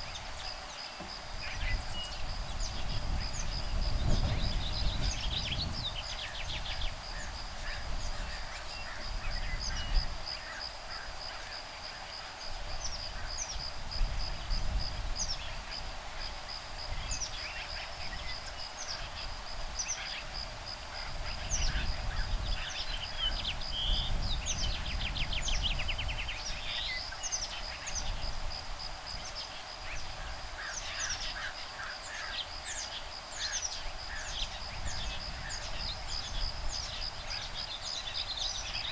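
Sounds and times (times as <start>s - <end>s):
low breeze rumble: 0.0s - 11.4s, 12.5s - 31.4s, 32.6s - 38.9s
high insect trill: 0.0s - 38.9s.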